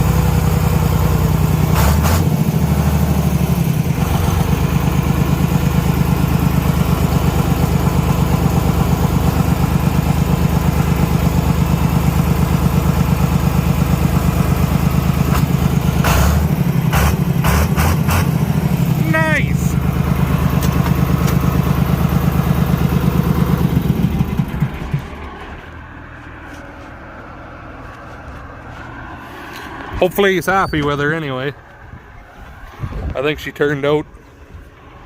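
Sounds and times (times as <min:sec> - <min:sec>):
tractor engine idling: 0:00.0 - 0:32.6.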